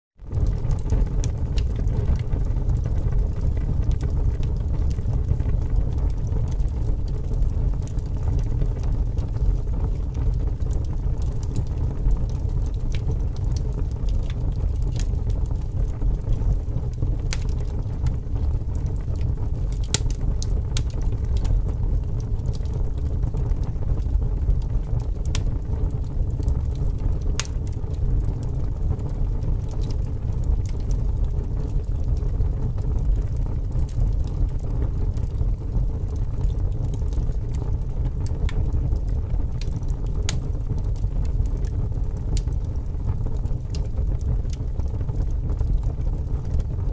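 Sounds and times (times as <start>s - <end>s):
low rumble of flames: 0.2s - 46.9s
wood crackling and popping: 0.2s - 46.9s.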